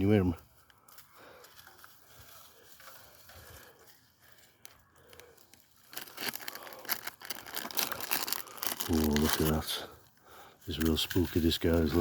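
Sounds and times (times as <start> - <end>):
leaves and twigs crunching underfoot: 0.0 - 12.0.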